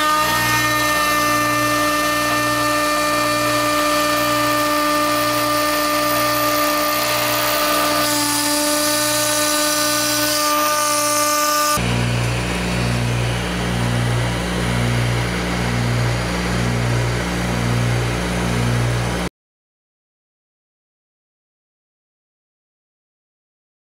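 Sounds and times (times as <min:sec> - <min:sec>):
spindle cutting with high whine: 0:00.0 - 0:19.3.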